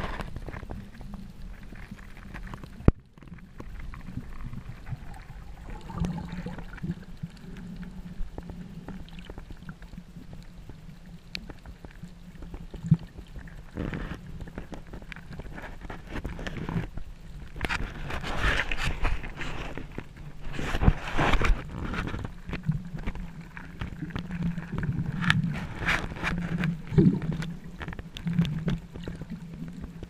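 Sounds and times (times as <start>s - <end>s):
faint clicks and crackles: 0.0s - 30.0s
underwater rumble: 0.0s - 30.0s.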